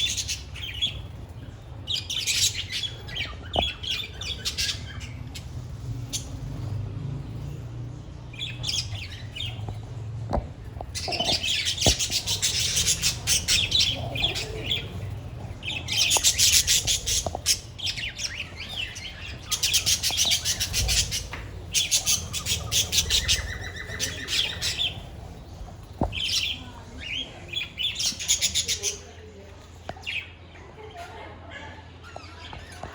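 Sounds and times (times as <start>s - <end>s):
budgerigars chirping and squawking: 0.0s - 6.8s, 7.4s - 30.4s.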